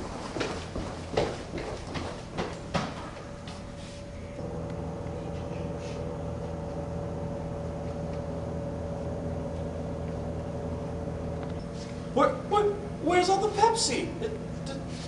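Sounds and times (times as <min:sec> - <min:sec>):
vending machine humming: 0:01.8 - 0:15.0.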